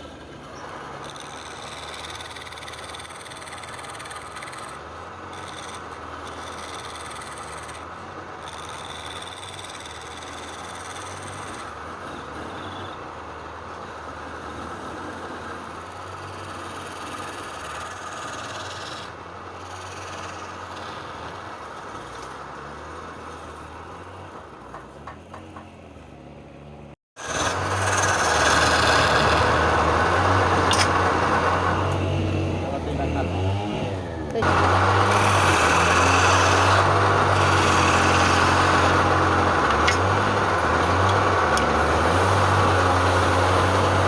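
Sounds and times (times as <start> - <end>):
wood lathe motor hum: 0.0 - 24.9, 27.2 - 44.0.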